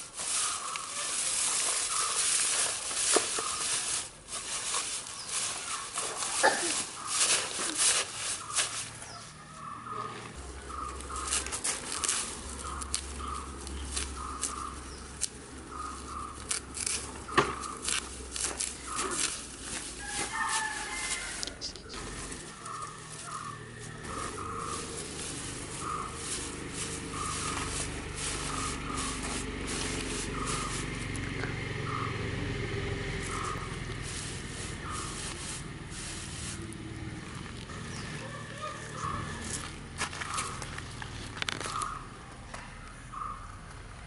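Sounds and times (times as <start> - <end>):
dry straw rustling and crackling: 0.0 - 42.2.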